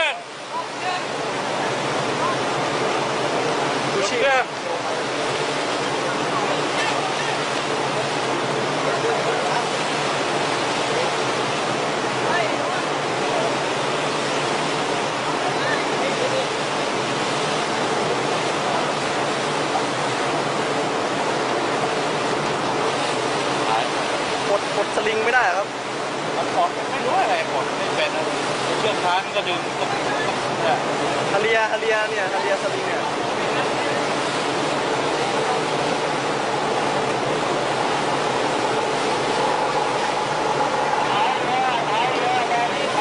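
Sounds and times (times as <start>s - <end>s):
seawater rushing along hull: 0.0s - 43.0s.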